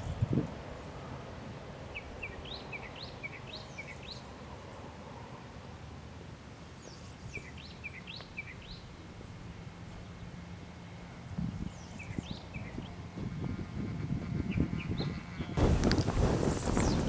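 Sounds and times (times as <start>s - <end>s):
low background noise: 0.0s - 13.8s.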